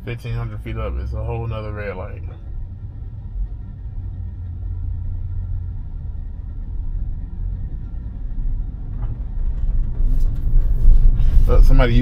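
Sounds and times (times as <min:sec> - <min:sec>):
faint steady hum: 0:00.0 - 0:12.0
road and cabin rumble: 0:00.0 - 0:12.0.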